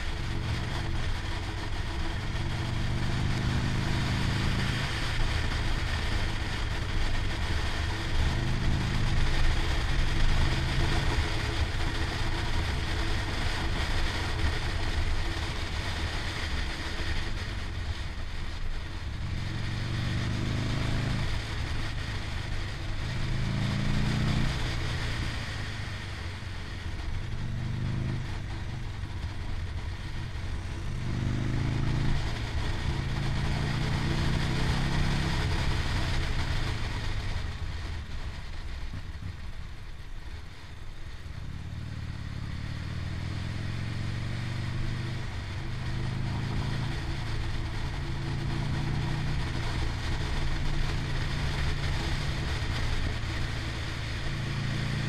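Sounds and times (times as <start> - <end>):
motorcycle engine revving: 0.0 - 16.8, 18.4 - 26.4, 27.0 - 37.6, 41.5 - 55.0
wind and road noise: 0.0 - 55.0.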